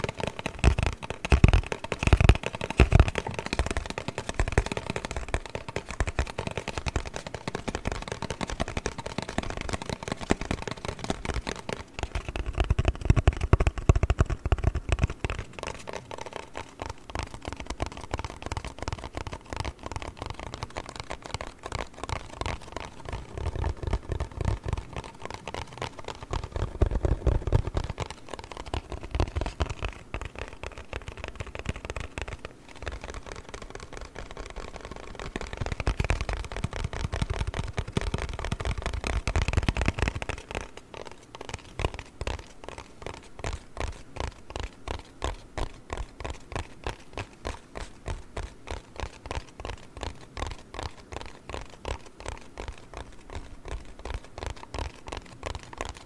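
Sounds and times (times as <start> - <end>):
taps and scratches on cardboard: 0.0 - 56.0.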